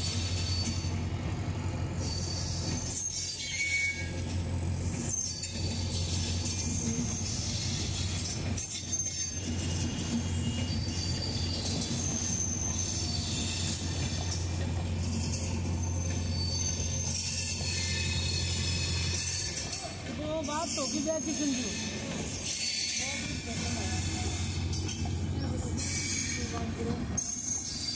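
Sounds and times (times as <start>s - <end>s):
high wheel squeals: 0.0s - 27.9s
train wheels rumbling on rails: 0.0s - 27.9s.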